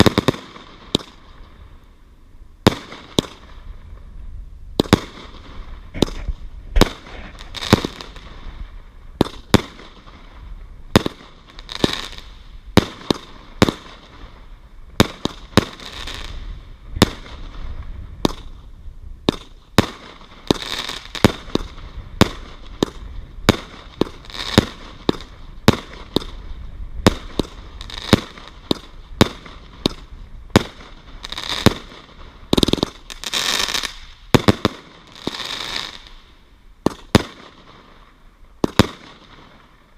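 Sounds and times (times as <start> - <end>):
fireworks banging: 0.0 - 1.6, 2.6 - 4.0, 4.7 - 39.9
fireworks crackling and fizzing: 0.0 - 39.9.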